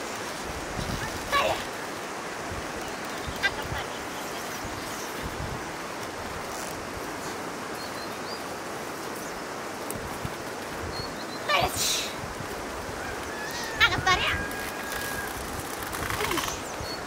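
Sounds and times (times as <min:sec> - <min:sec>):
rushing outdoor background noise: 0:00.0 - 0:17.0.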